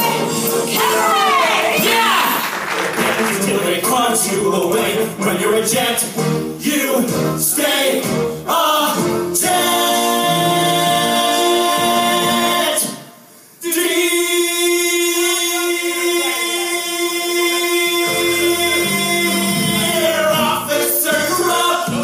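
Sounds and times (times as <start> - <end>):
two men singing: 3.0 - 13.0, 13.6 - 22.0.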